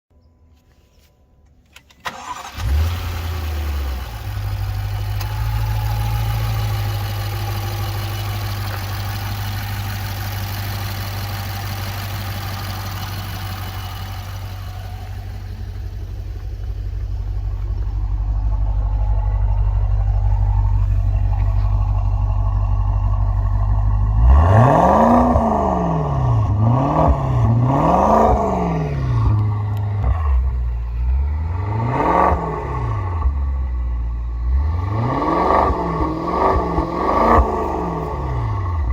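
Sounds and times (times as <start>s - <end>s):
car engine starting and idling: 1.4s - 38.9s.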